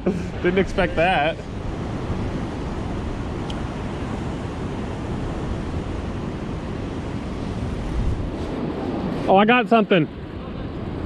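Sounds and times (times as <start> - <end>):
wind on microphone: 0.0 - 9.4
ocean surf: 0.0 - 11.0.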